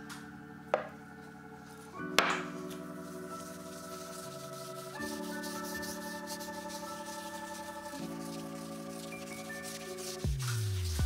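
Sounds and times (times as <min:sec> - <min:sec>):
held synth chords: 0:00.0 - 0:11.0.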